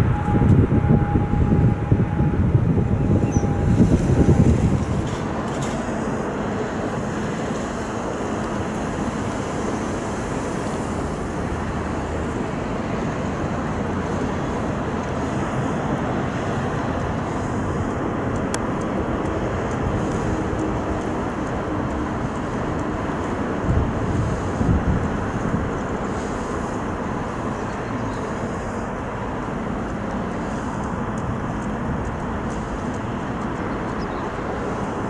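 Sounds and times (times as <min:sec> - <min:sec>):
jet engines at taxi power: 0:00.0 - 0:35.0.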